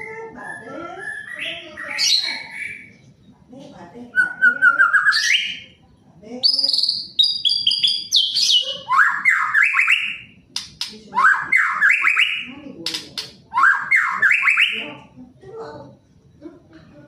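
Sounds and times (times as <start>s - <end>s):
songbird singing: 0.0s - 3.5s, 4.1s - 15.1s.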